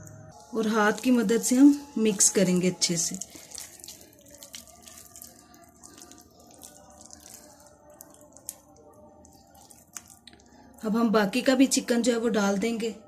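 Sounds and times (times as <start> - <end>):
wet squelching of batter: 0.3 - 11.0.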